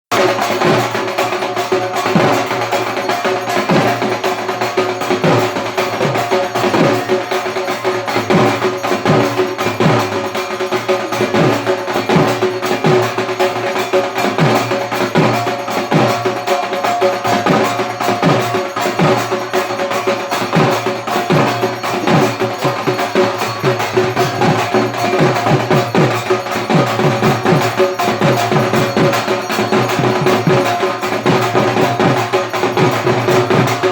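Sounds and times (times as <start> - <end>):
drums played in fast rhythm: 0.1 - 33.9
metallic ringing: 0.2 - 33.9.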